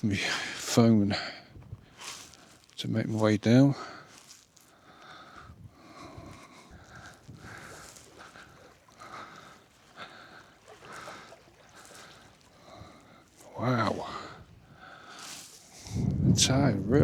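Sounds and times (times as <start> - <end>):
footsteps in sand: 0.0 - 16.7.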